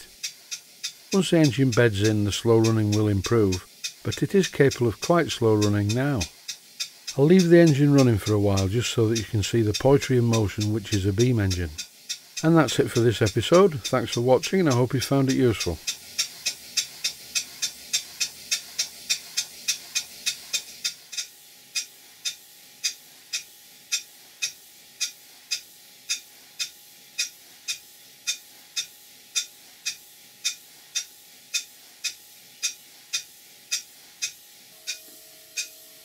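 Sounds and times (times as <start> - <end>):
model beam engine ticking: 0.0 - 36.0.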